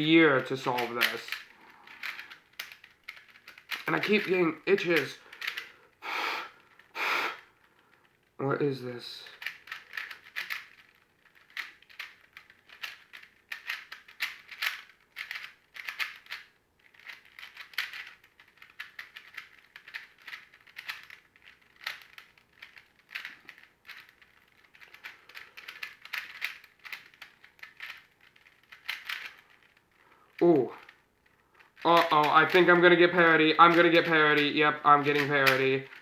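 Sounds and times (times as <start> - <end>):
puzzle cube layers clicking: 0.3 - 5.7, 9.3 - 36.0.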